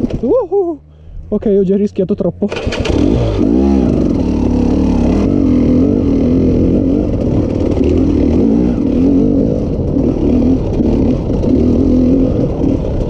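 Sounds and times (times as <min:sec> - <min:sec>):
motorcycle engine revving: 0:02.4 - 0:13.0.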